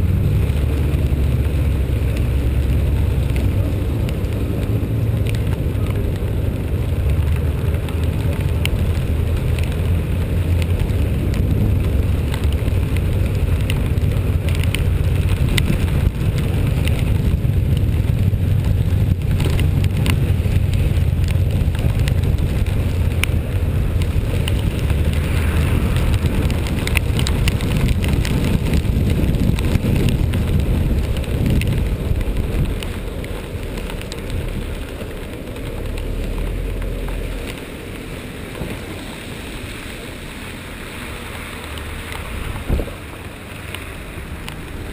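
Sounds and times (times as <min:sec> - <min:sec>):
raindrops ticking on microphone: 0:00.0 - 0:44.9
vehicle engine and road rumble: 0:00.0 - 0:44.9.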